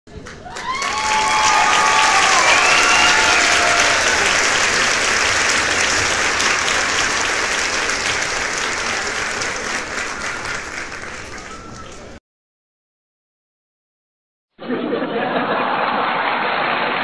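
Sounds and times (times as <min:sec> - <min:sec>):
large audience applauding: 0:00.1 - 0:12.2, 0:15.4 - 0:17.0.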